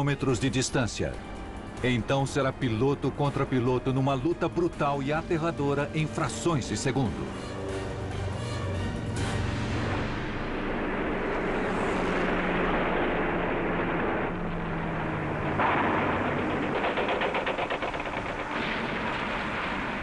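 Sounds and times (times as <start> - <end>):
fighter plane engines droning: 0.0 - 20.0.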